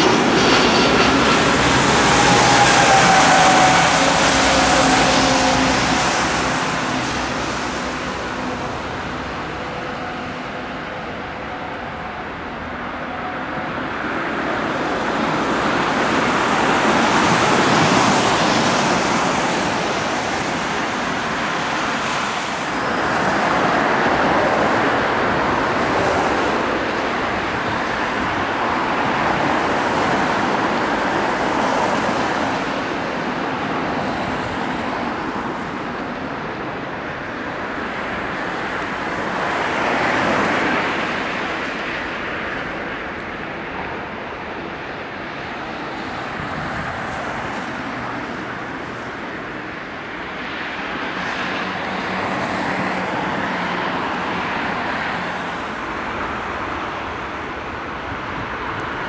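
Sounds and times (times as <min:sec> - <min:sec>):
jet engine whine: 0:00.0 - 0:59.0
reverse thrust rush on wet runway: 0:00.0 - 0:59.0.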